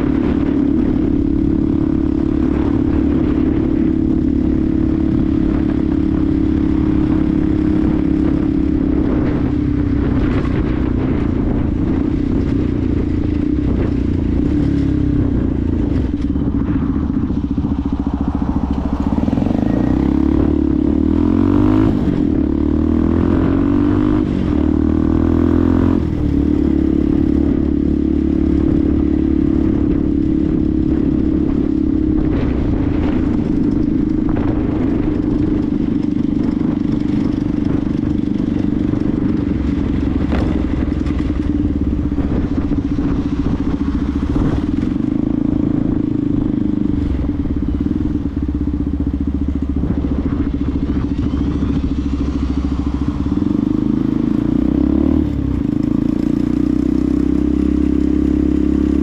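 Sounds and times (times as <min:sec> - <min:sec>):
motorcycle engine accelerating through gears: 0:00.0 - 0:59.0.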